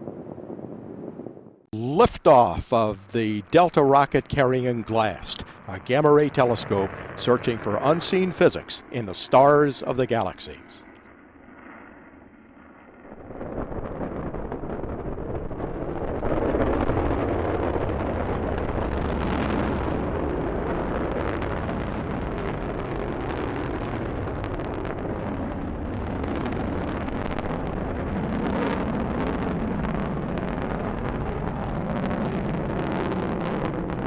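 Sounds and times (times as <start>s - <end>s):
rocket engine rumble and crackle: 0.0s - 34.0s.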